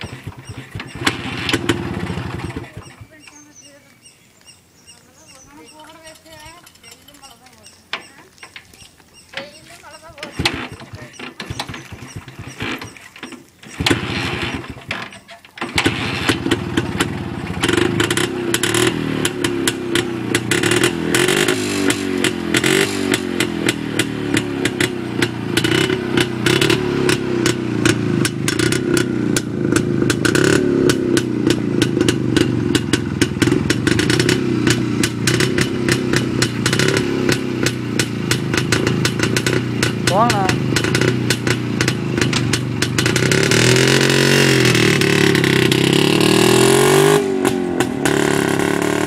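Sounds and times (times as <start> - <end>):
two-stroke motorcycle engine: 0.0 - 3.5, 5.4 - 49.0.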